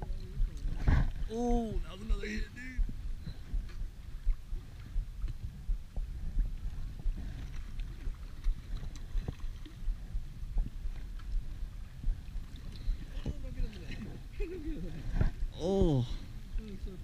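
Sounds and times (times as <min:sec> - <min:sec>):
water lapping and sloshing: 0:00.0 - 0:17.0
wind buffeting microphone: 0:00.0 - 0:17.0.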